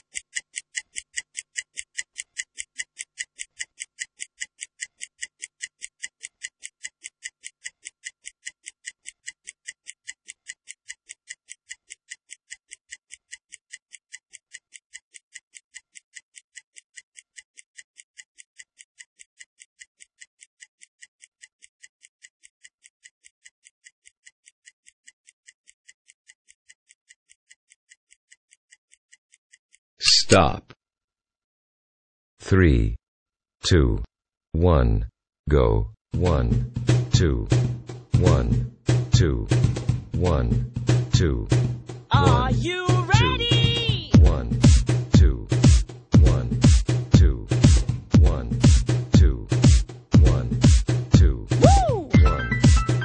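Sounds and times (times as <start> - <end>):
stopwatch ticking: 0.0 - 30.0, 39.2 - 53.0.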